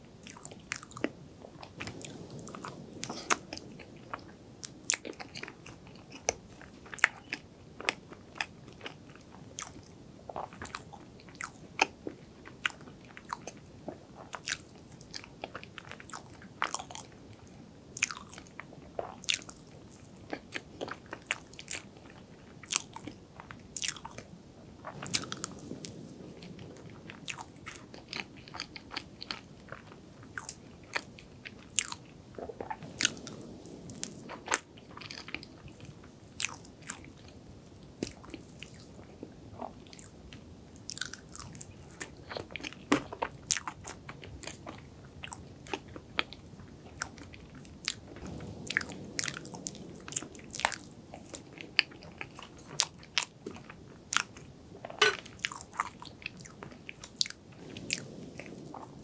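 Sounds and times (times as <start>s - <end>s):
chewing soft cake: 0.0s - 59.0s.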